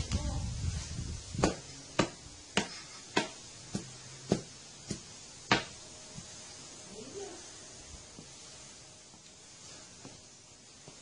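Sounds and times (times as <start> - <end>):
broom slapping tiled floor: 0.0 - 11.0.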